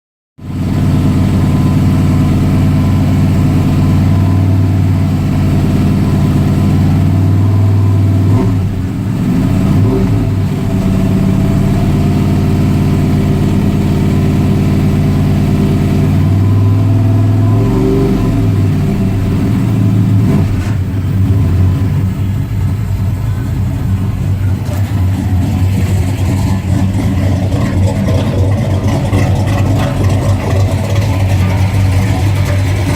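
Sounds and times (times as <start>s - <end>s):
car engine idling and revving: 0.4s - 32.9s.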